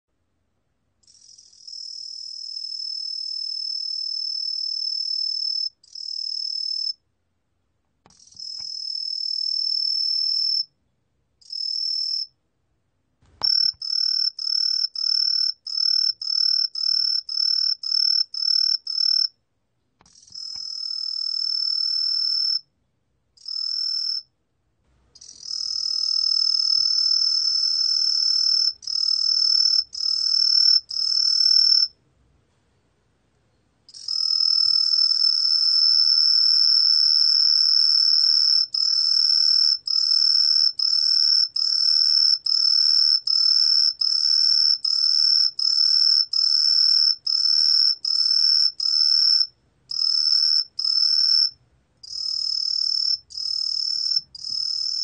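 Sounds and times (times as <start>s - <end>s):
cricket trilling: 1.0s - 7.0s, 8.2s - 10.7s, 11.4s - 12.3s, 13.4s - 19.3s, 20.2s - 22.6s, 23.4s - 24.3s, 25.2s - 32.0s, 33.9s - 55.0s.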